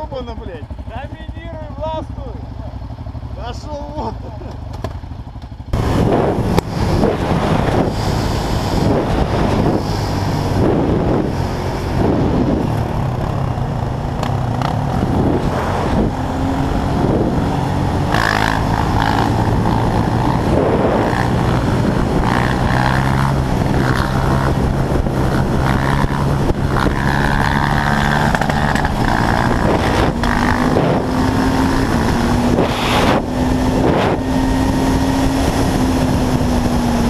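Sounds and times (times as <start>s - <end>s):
quad engines revving: 5.7s - 37.0s
wind noise on microphone: 5.7s - 37.0s.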